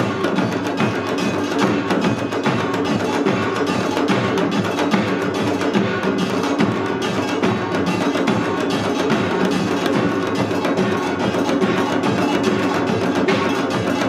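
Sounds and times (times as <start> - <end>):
hourglass and barrel drums beating: 0.0 - 14.0.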